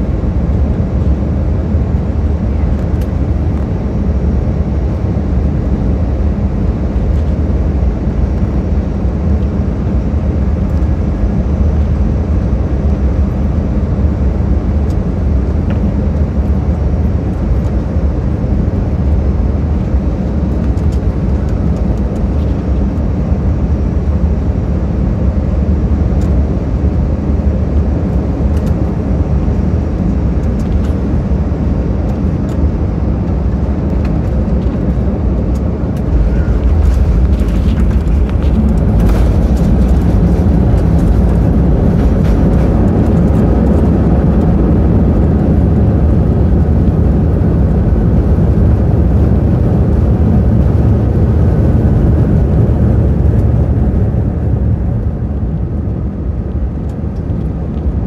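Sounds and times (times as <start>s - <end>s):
airliner cabin engine rush: 0.0s - 58.0s.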